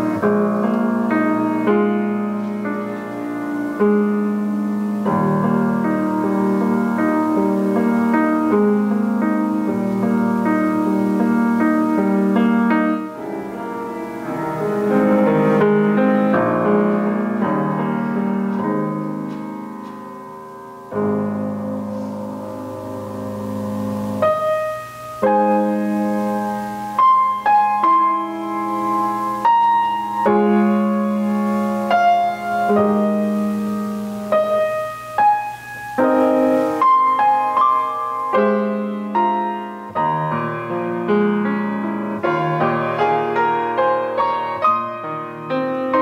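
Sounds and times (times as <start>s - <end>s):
grand piano playing: 0.0s - 46.0s.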